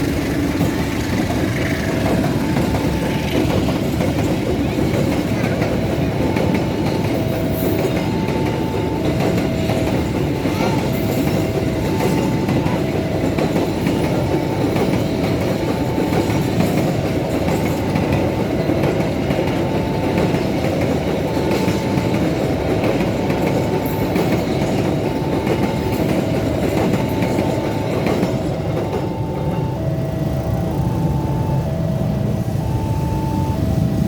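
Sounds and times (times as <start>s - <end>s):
train wheels clattering over rails: 0.0s - 31.1s
two-tone crossing alarm: 0.0s - 34.0s.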